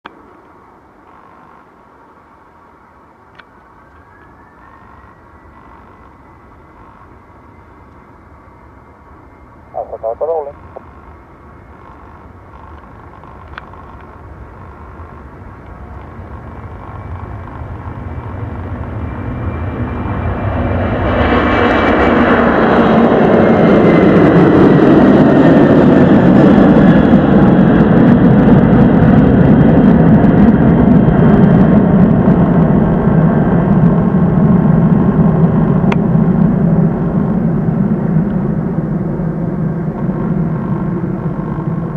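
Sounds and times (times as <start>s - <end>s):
jet engines at takeoff: 0.0s - 41.9s.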